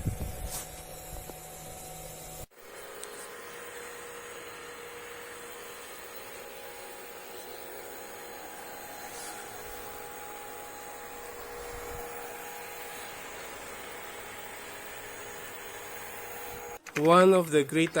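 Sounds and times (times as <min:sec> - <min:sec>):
faint motor hum: 0:00.0 - 0:16.9.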